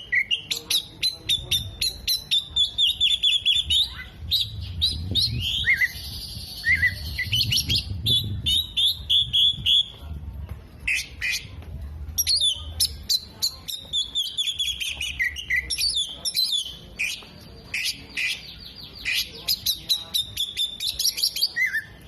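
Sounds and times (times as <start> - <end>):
bird singing chirps and trills: 0.0 - 9.9, 12.2 - 22.0.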